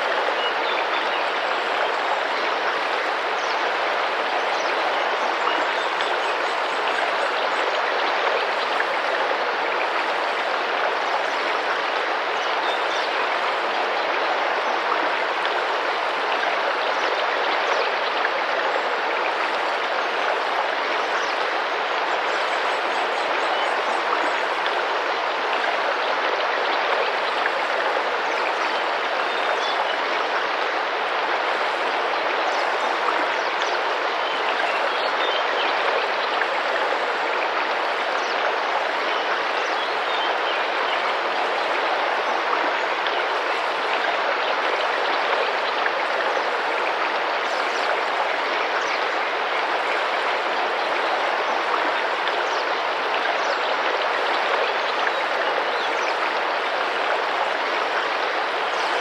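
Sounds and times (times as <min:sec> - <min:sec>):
river flowing and splashing: 0:00.0 - 0:59.0.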